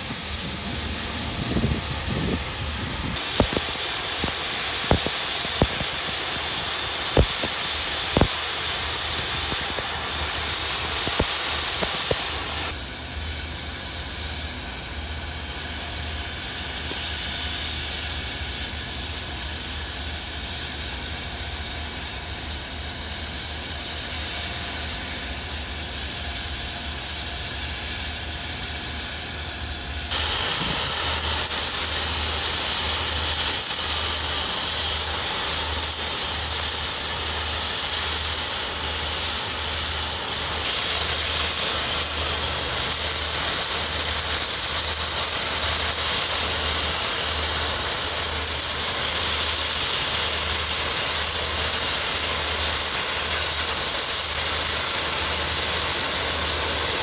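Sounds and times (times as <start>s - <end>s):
cutting torch hissing: 0.0s - 57.0s.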